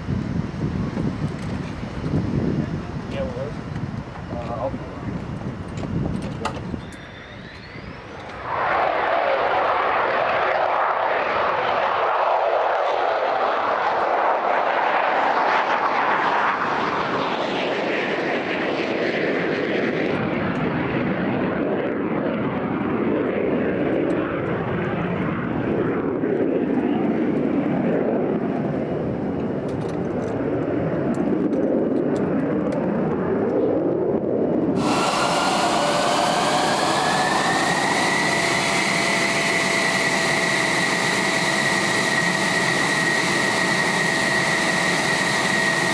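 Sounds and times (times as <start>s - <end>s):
jet engine rushing past: 0.0s - 45.9s
jet engine whine: 0.0s - 45.9s.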